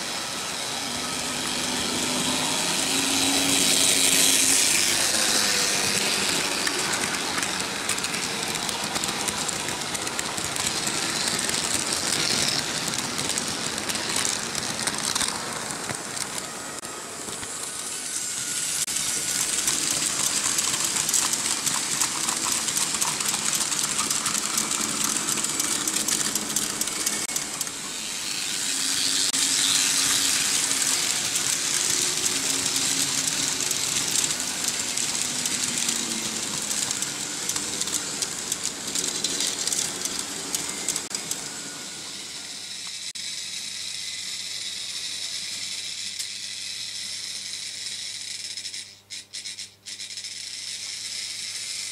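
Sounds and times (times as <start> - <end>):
hiss: 0.0 - 48.5
model locomotive motors whirring: 0.0 - 51.9
model train wheels rattling: 1.2 - 41.6, 42.9 - 51.9.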